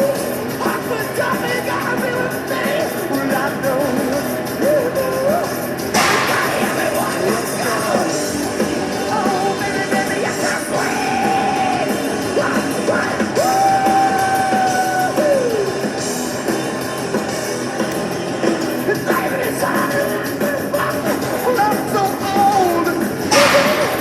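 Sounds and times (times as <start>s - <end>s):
rock music: 0.0s - 24.0s
singer holding long notes: 0.0s - 24.0s.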